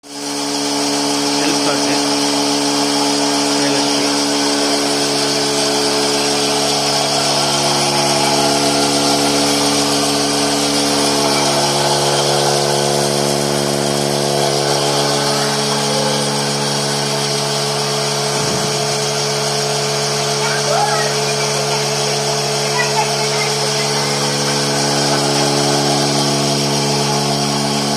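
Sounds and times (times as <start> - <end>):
petrol engine humming: 1.2 - 27.9.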